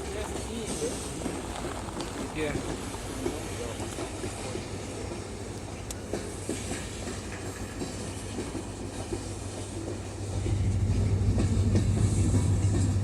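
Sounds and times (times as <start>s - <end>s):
diesel locomotive humming: 0.0s - 13.0s.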